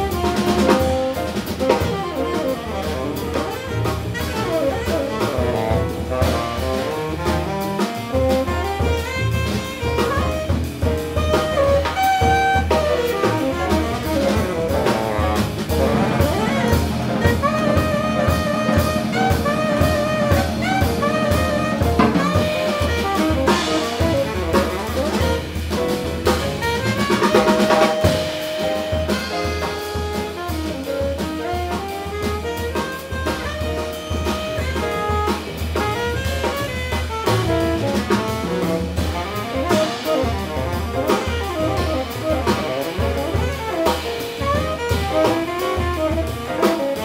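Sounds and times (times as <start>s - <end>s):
double bass: 0.0s - 47.0s
drum kit: 0.0s - 47.0s
piano: 0.0s - 47.0s
saxophones playing: 0.3s - 47.0s.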